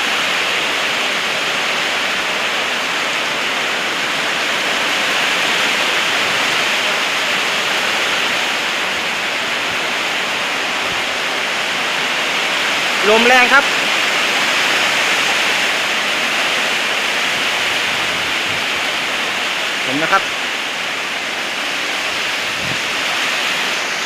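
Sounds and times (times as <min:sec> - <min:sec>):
heavy rain: 0:00.0 - 0:24.0
strong wind: 0:00.0 - 0:24.0.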